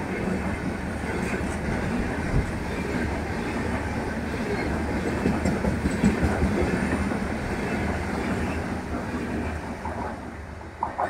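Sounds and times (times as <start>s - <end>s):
passenger train passing: 0.0s - 11.0s.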